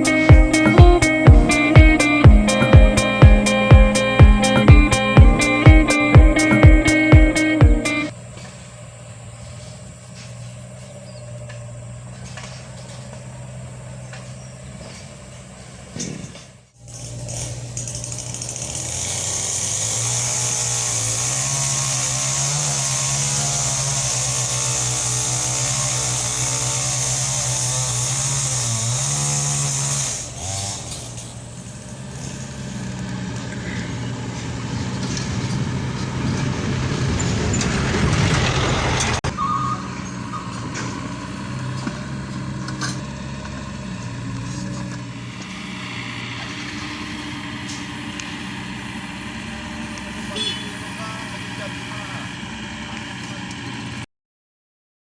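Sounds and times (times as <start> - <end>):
excavator diesel engine running: 0.0 - 54.1.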